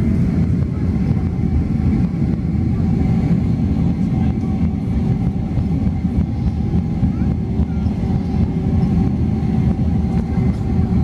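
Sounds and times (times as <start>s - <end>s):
jet engines at high thrust: 0.0s - 11.0s
wheels rumbling on runway: 0.0s - 11.0s.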